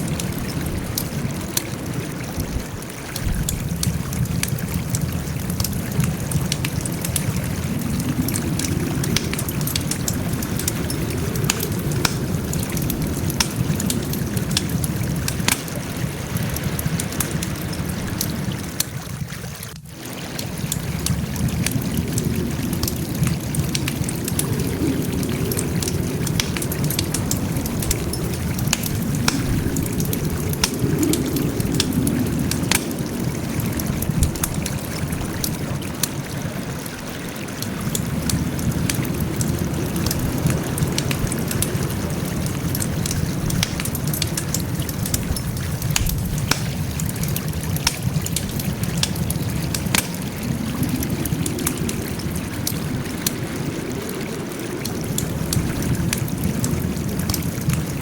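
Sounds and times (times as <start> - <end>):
campfire crackling: 0.0 - 58.0
low rushing of fire: 0.0 - 58.0.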